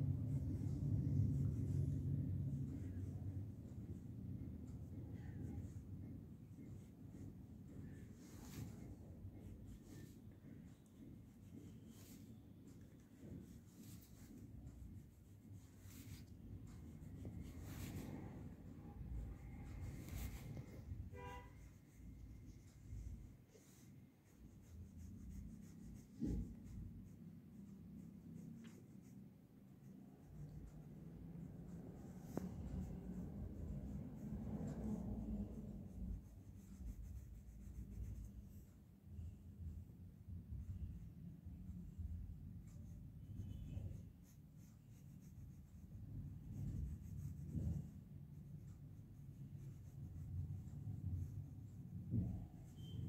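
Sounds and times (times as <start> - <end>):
low background rumble: 0.0 - 53.0
paintbrush scratching on cloth: 0.0 - 53.0.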